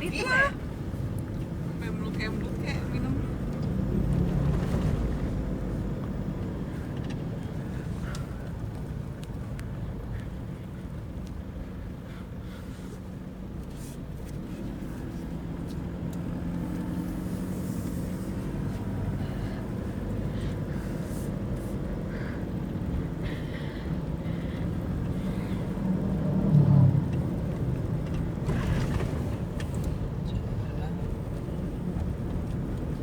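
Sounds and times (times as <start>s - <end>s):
diesel engine droning: 0.0s - 33.0s
road noise: 0.0s - 33.0s.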